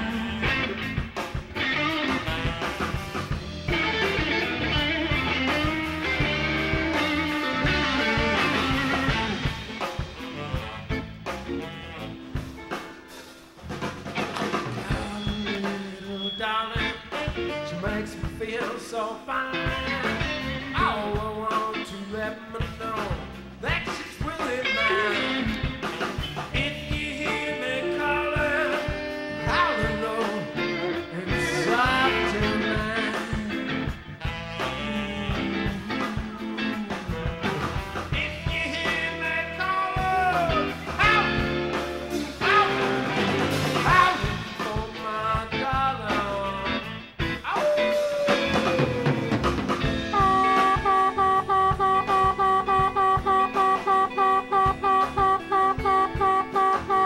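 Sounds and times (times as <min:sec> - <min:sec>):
electric blues band playing: 0:00.0 - 0:57.0.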